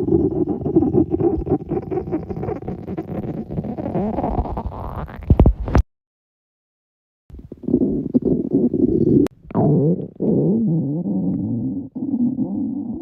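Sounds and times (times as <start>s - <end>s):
stomach growling: 0.0s - 5.8s, 7.4s - 13.0s.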